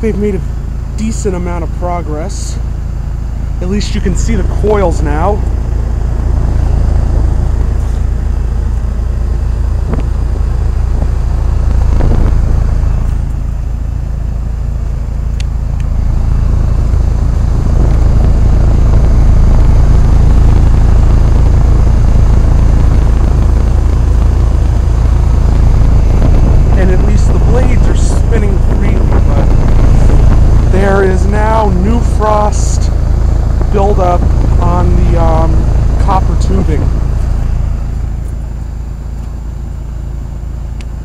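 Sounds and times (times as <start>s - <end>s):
heat pump humming: 0.0s - 41.0s.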